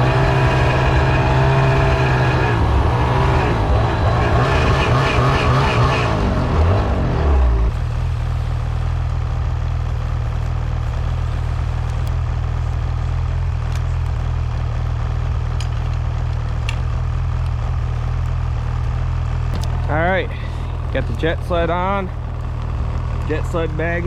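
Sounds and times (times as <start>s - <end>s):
snowmobile engine idling: 0.0s - 24.0s.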